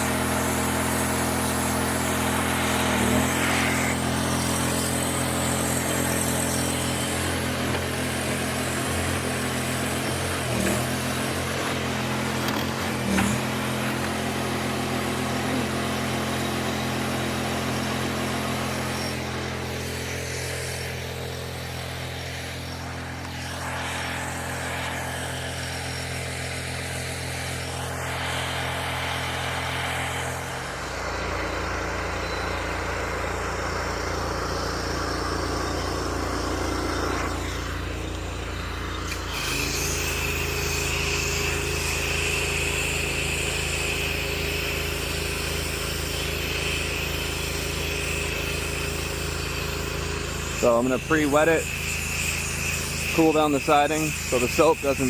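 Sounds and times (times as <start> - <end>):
pressure washer engine running: 0.0 - 55.0.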